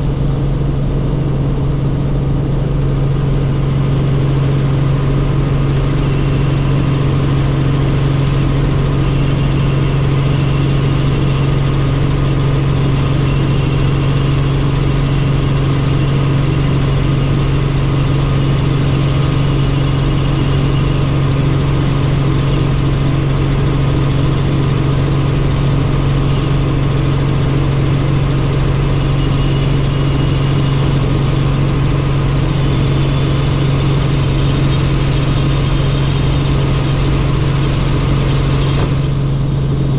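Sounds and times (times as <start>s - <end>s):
helicopter in flight: 0.0s - 39.9s.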